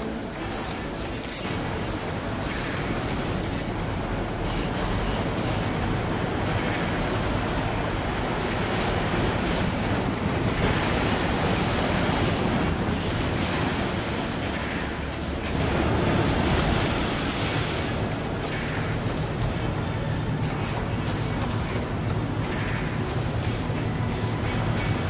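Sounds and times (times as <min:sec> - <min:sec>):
waves breaking on rocks: 0:00.0 - 0:25.0.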